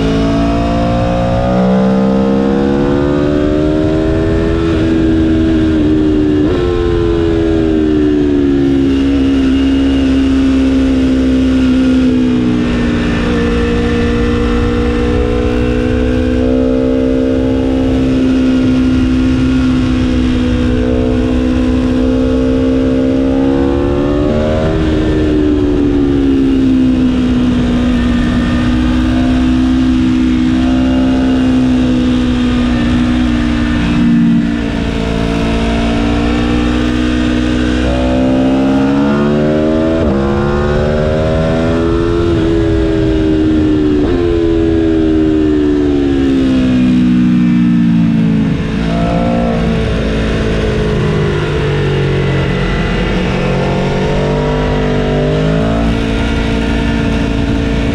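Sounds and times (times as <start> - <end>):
motorcycle engine revving: 0.0 - 57.9
wind rushing over microphone: 0.0 - 57.9.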